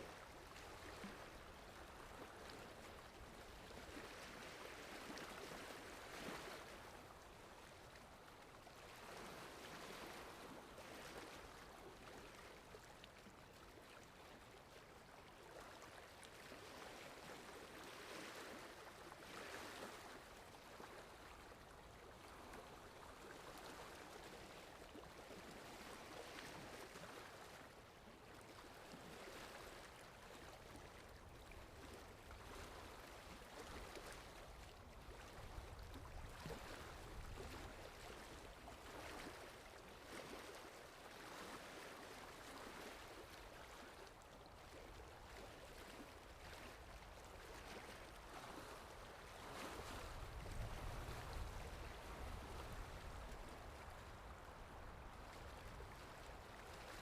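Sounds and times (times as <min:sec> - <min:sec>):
faint sea waves washing in: 0:00.0 - 0:57.0.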